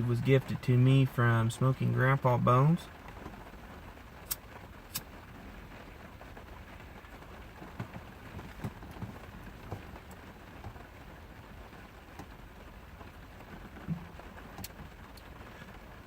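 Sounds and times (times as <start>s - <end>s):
steady rain falling: 0.0s - 16.0s
drips and ticks on a surface: 0.2s - 16.0s.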